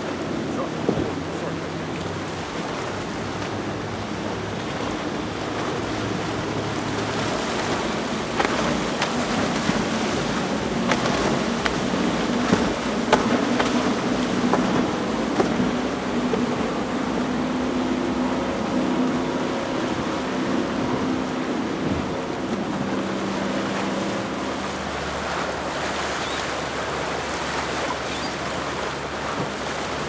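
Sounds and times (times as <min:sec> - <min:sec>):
boat engine drone: 0:00.0 - 0:30.0
rush of spray and wake: 0:00.0 - 0:30.0.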